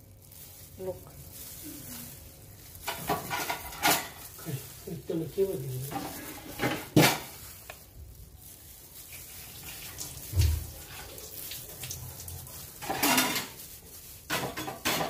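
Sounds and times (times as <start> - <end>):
noodles handled in metal bowl: 0.0 - 15.0
rustling scrape: 0.0 - 15.0.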